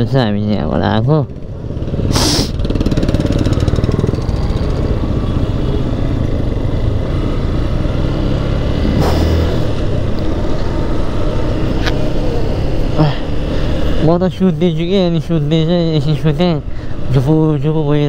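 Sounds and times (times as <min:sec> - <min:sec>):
wind and road noise: 0:00.0 - 0:18.0
motorcycle engine running: 0:00.5 - 0:16.7.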